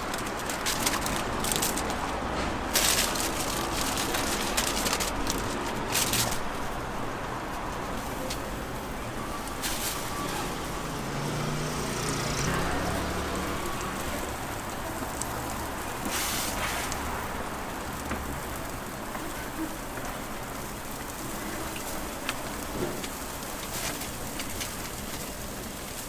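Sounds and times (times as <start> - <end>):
griddle sizzling: 0.0 - 26.0
street traffic: 0.0 - 26.0.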